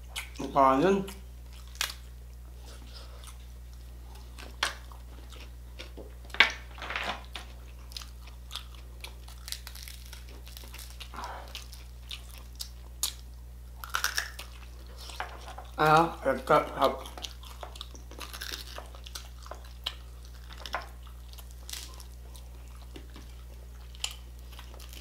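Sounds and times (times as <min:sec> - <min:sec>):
chewing crispy pork skin: 0:00.0 - 0:06.6, 0:07.2 - 0:25.0.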